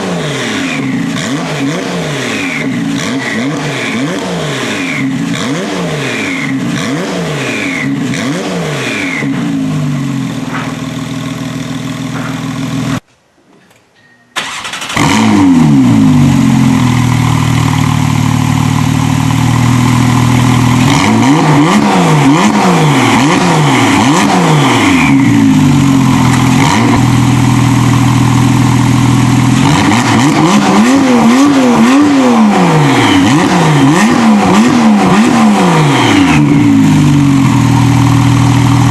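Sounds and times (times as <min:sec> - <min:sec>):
car engine revving: 0:00.0 - 0:13.0, 0:14.4 - 0:38.9.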